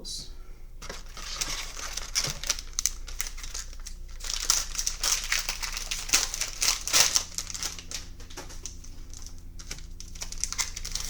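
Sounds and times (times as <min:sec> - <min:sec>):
foil wrapper crinkling: 0:00.8 - 0:11.0.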